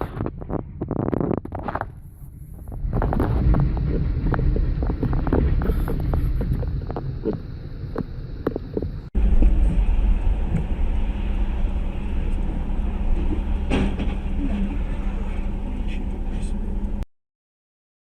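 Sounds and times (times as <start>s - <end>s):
vehicle engine and tyres rumbling: 0.0s - 17.1s.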